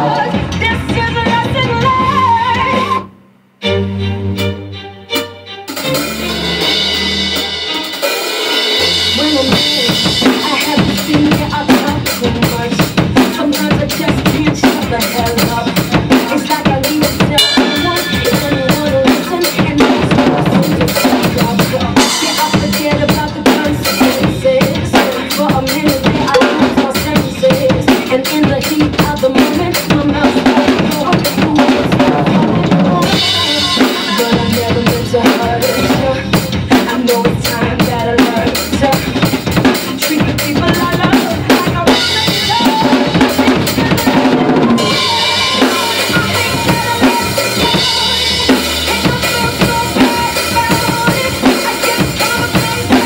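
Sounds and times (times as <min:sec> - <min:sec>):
acoustic drum kit beat: 0:00.0 - 0:02.9, 0:05.1 - 0:53.0.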